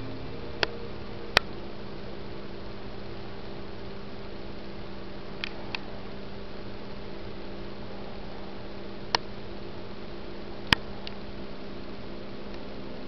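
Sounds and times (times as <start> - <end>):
low electrical hum: 0.0 - 13.0
steady hiss: 0.0 - 13.0.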